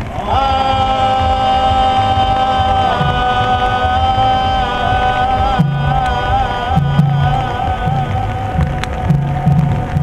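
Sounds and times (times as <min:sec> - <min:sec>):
lower voice chanting: 0:00.0 - 0:10.0
voices chanting long steady notes: 0:00.0 - 0:10.0.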